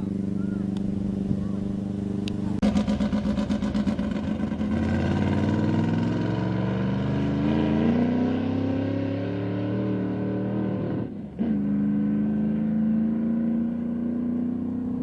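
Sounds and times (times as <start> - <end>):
racing car engine accelerating: 0.0 - 15.0.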